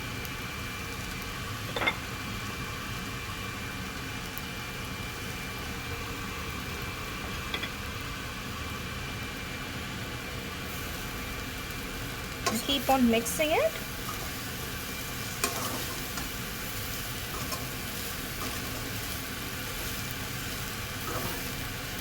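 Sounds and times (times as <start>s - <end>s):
food frying in a pan: 0.0s - 22.0s.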